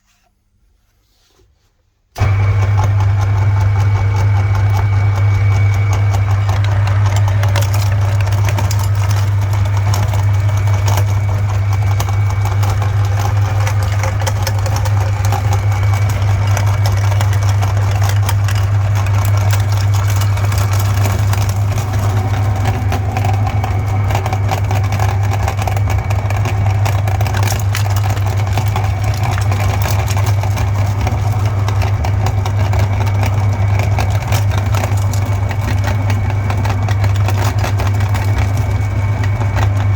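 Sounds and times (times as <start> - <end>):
fine crackling of grinding: 2.2 - 39.9
meat grinder motor hum: 2.2 - 39.9.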